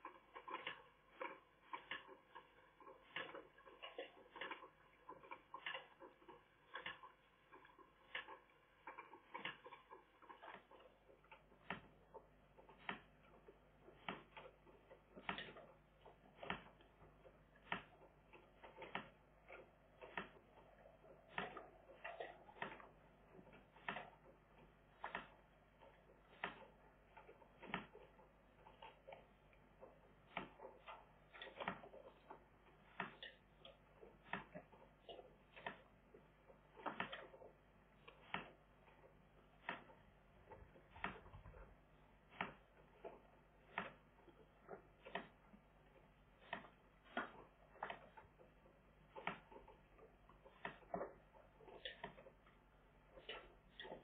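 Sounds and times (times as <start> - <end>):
faint clicking and ticking: 0.0 - 54.0.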